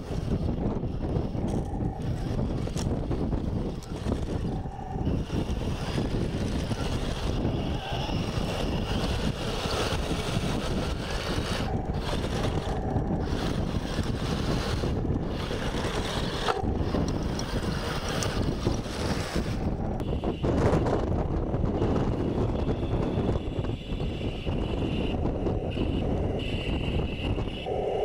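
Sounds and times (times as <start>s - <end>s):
toy tank motors whining: 0.0s - 28.0s
wind buffeting microphone: 0.0s - 28.0s.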